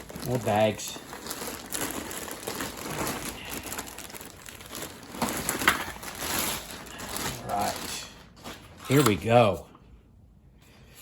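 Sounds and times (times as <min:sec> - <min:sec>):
packaging bags crinkling: 0:00.0 - 0:09.4.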